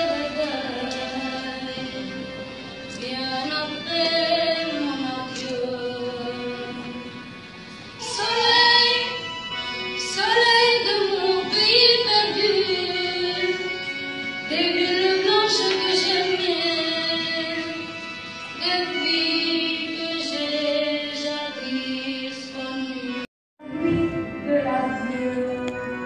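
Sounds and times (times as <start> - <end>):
woman singing: 0.0 - 2.2, 2.9 - 7.0, 8.0 - 9.2, 10.0 - 13.8, 14.5 - 17.8, 18.6 - 26.0
music: 0.0 - 26.0.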